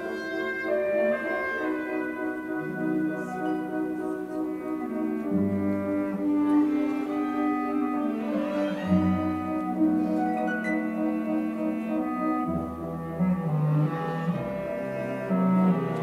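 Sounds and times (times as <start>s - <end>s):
slow orchestral music: 0.0s - 16.0s.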